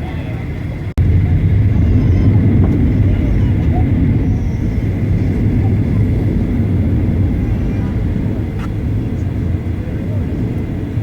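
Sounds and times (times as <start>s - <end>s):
faint steady whine: 0.0s - 11.0s
jet engine and airflow rumble: 0.0s - 11.0s.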